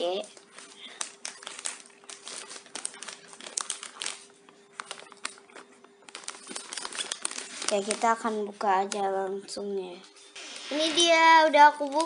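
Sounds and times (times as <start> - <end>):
plastic bag crinkling: 0.2 - 8.9, 10.4 - 12.0.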